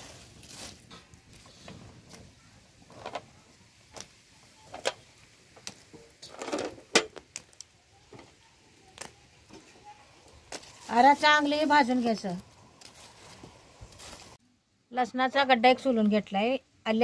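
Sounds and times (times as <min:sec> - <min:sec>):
wood fire crackling: 0:00.0 - 0:14.4.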